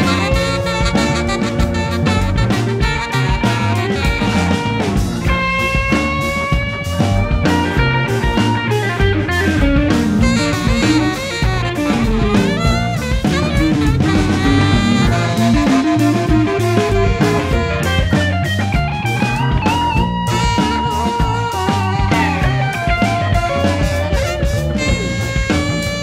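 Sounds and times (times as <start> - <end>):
live band playing: 0.0 - 26.0
saxophone: 0.0 - 26.0.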